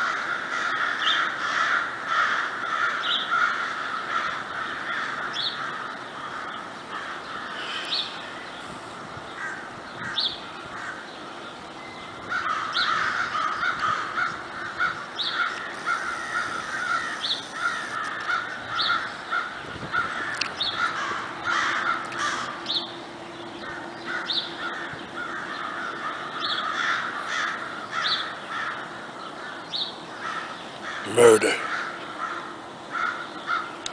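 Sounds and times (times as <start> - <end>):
crows cawing: 0.0 - 8.4, 9.4 - 11.1, 12.2 - 22.7, 23.6 - 33.8.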